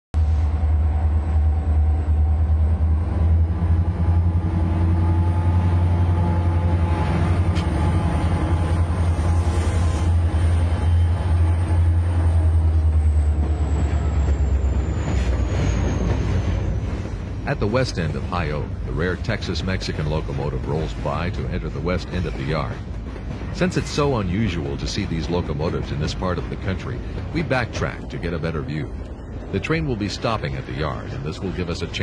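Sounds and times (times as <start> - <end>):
diesel locomotive engine drone: 0.2 - 32.0.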